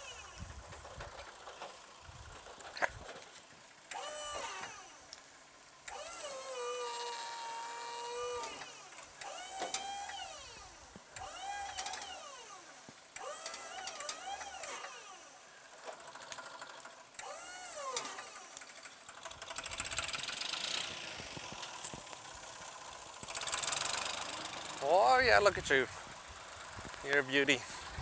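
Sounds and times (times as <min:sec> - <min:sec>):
hydraulic pump whining: 0:00.0 - 0:03.2, 0:03.9 - 0:05.2, 0:05.8 - 0:28.0.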